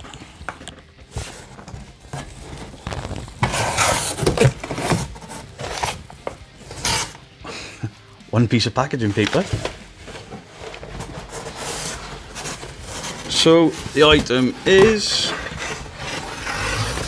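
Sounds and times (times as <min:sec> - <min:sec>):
packing paper rustling: 0:01.0 - 0:07.1, 0:09.1 - 0:17.0.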